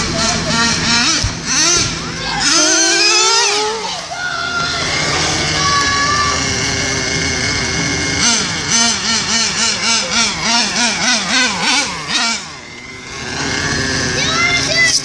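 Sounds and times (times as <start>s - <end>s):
toy car engine revving: 0.0s - 15.0s.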